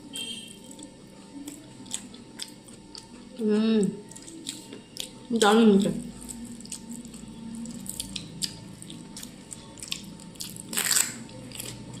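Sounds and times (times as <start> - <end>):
person chewing food: 0.2 - 3.4, 4.0 - 12.0.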